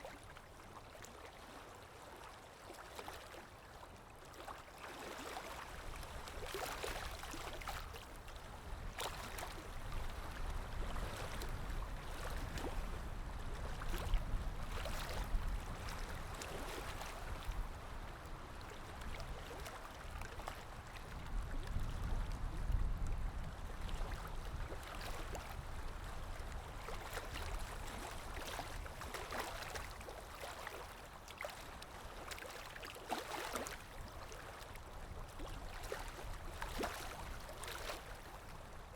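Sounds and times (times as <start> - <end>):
water lapping: 0.0 - 38.9.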